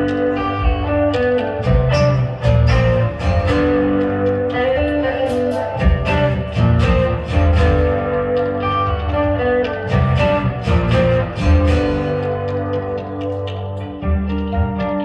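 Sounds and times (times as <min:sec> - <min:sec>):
folk dance band playing: 0:00.0 - 0:13.2
bass line: 0:00.0 - 0:15.0
strummed and plucked strings: 0:00.0 - 0:15.0.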